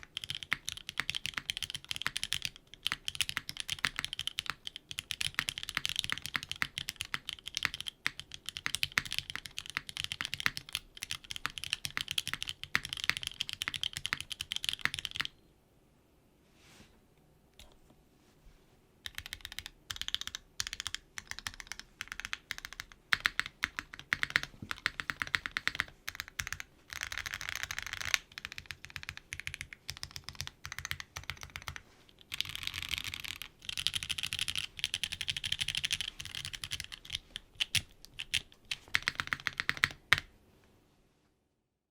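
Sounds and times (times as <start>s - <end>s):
mechanical keyboard typing: 0.0s - 15.3s, 19.0s - 40.3s.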